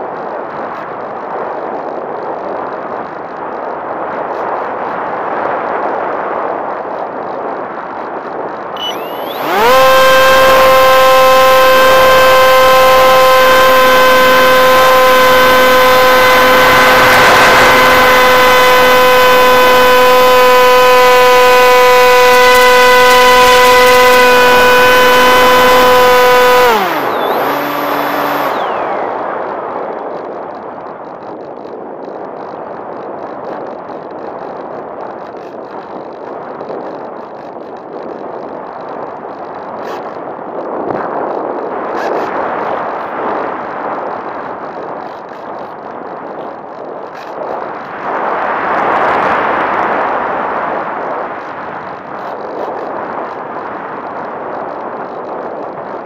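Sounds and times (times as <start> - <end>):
electric motor and propeller whine: 8.8 - 56.0.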